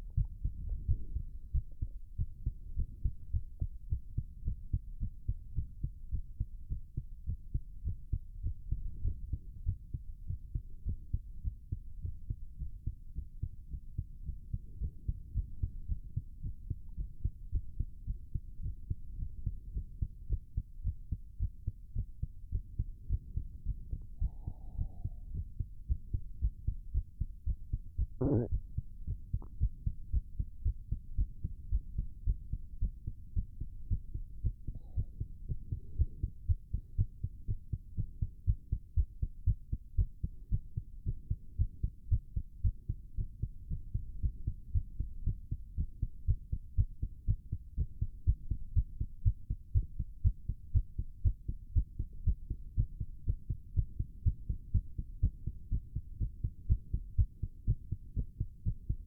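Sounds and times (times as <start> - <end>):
heart beating fast: 0.0 - 59.0.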